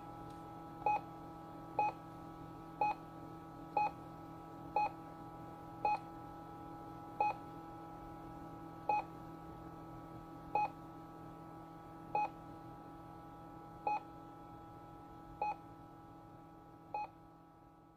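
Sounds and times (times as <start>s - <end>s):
electronic hum of held tones: 0.0s - 17.9s.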